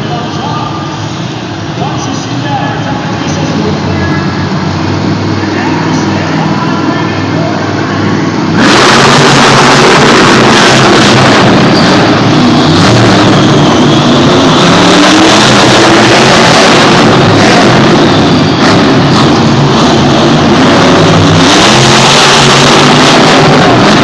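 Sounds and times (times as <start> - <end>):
monster truck engine running: 0.0 - 24.0.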